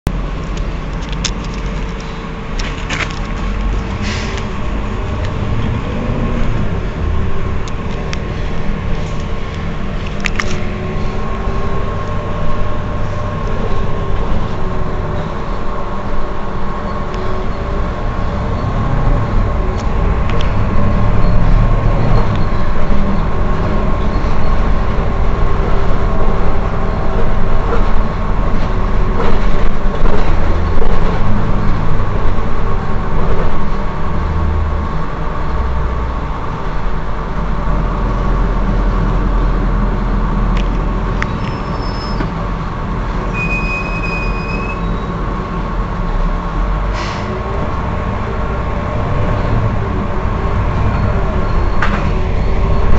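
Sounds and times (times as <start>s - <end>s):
bus engine idling: 0.0s - 52.9s.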